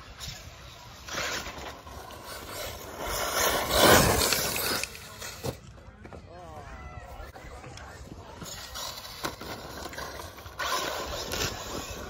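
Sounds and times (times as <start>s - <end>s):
rc car driving on dirt: 0.0s - 5.8s, 7.3s - 12.0s.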